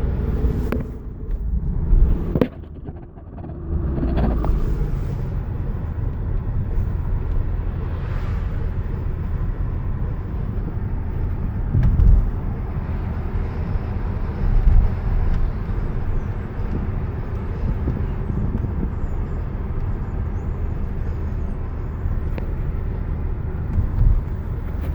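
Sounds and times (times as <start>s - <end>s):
car drivetrain rattle: 0.0s - 8.0s, 8.6s - 24.9s
car driving rumble: 0.0s - 24.9s.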